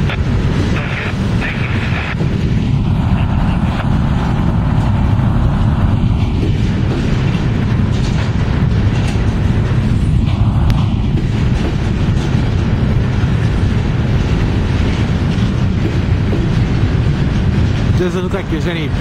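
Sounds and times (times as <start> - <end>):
freight train cars rumbling: 0.0 - 19.0.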